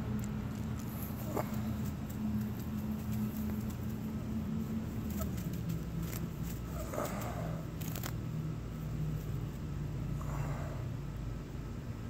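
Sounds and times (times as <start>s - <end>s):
grass rustling: 0.0s - 10.4s.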